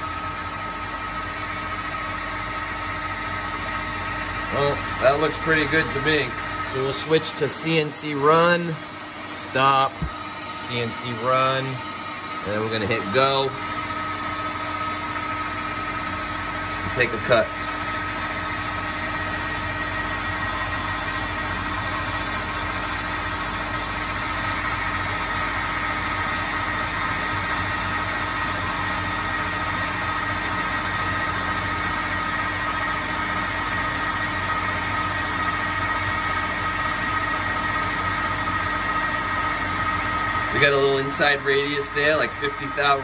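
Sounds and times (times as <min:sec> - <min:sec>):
lathe machine hum with whining: 0:00.0 - 0:43.0.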